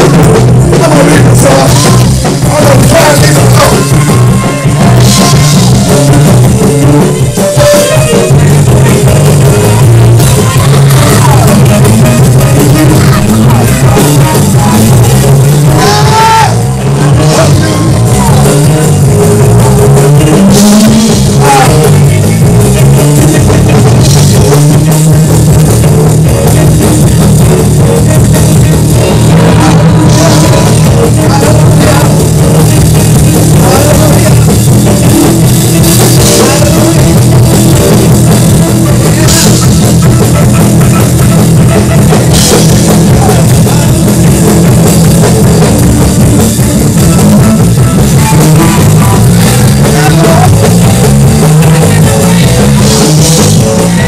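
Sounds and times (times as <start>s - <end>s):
gospel band with drums: 0.0s - 54.0s.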